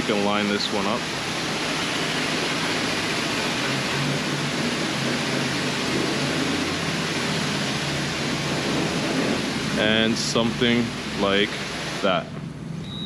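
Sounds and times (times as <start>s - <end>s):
loud background hiss: 0.0s - 13.0s.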